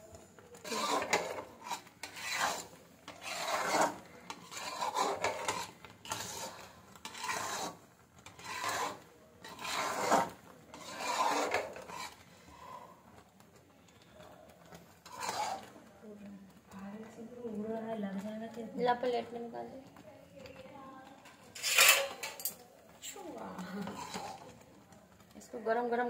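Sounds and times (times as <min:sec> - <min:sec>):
spoon scraping a pan: 0:00.6 - 0:13.2, 0:14.6 - 0:17.8, 0:18.4 - 0:25.5.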